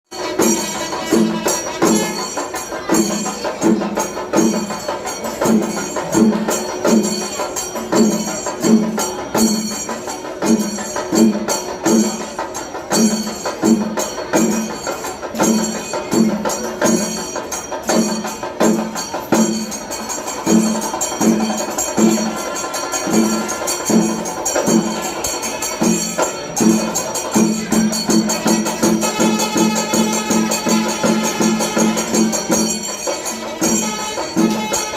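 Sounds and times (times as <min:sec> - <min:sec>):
drums beating: 0:00.1 - 0:34.9
jingling high percussion: 0:00.1 - 0:34.9.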